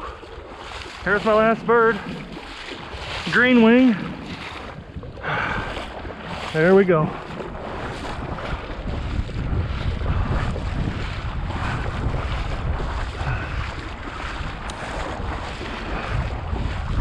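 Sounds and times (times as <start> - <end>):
wading through shallow water: 0.0 - 17.0
wind rumbling on microphone: 0.0 - 17.0.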